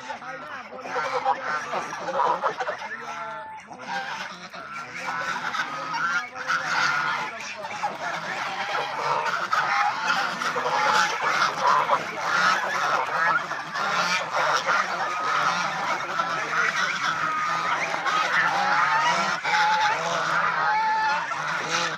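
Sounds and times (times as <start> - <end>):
geese honking: 0.0 - 21.9.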